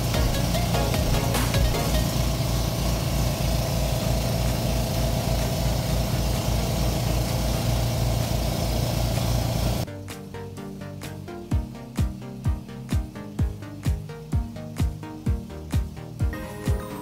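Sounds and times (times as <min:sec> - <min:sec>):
motorboat engine throbbing: 0:00.0 - 0:17.0.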